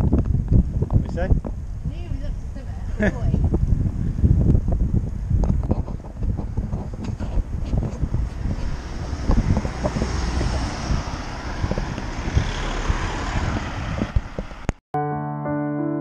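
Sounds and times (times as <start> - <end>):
low rumbling: 0.0 - 14.8
wind buffeting microphone: 0.0 - 14.8.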